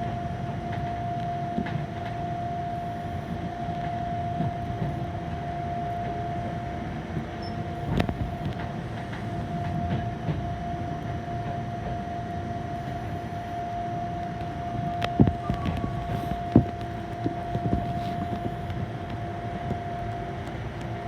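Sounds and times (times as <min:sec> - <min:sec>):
tram rolling rumble: 0:00.0 - 0:21.0
tram whine: 0:00.0 - 0:21.0
rail clacks: 0:03.3 - 0:13.4, 0:14.2 - 0:21.0.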